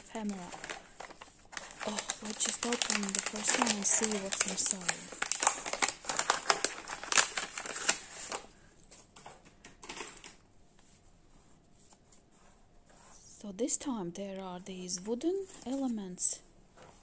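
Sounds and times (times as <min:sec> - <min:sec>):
paper rustling and crinkling: 0:00.0 - 0:13.2, 0:15.0 - 0:17.0.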